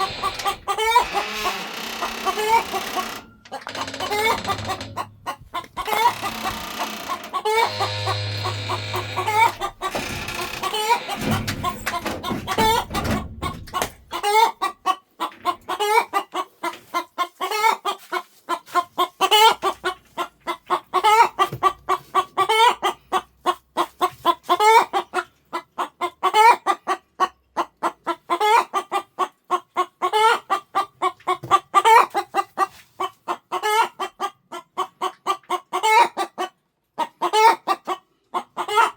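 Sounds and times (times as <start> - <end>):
hen clucking: 0.0 - 38.9.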